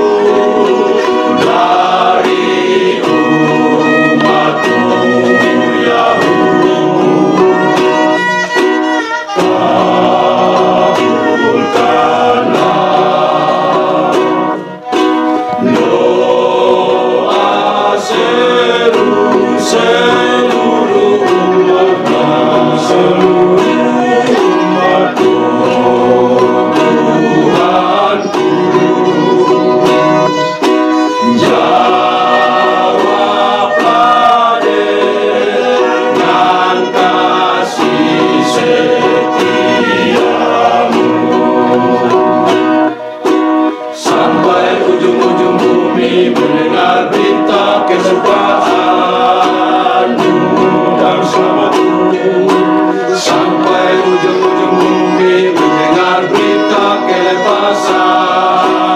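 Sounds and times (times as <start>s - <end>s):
men's choir singing a hymn: 0.0s - 8.6s, 9.4s - 58.9s
strummed ukulele: 0.0s - 58.9s.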